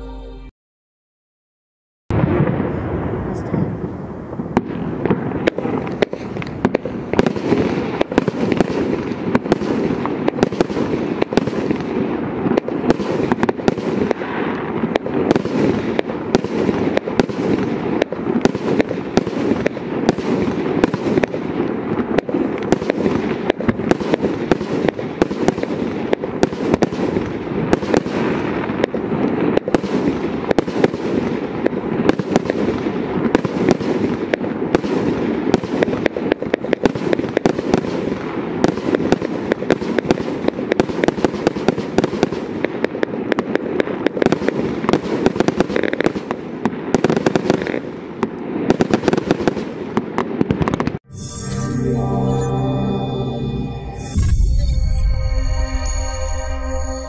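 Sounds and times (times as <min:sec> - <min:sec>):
firework barrage bangs: 0:02.1 - 0:51.0.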